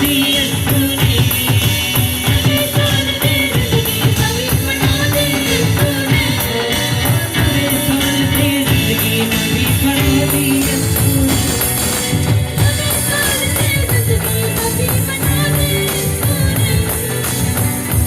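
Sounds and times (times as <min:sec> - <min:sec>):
steady percussion beat: 0:00.0 - 0:18.0
worship band music: 0:00.0 - 0:18.0.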